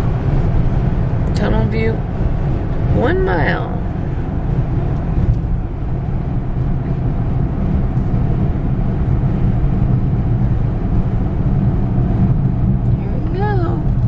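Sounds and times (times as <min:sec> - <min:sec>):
car cabin road and engine rumble: 0:00.0 - 0:14.0.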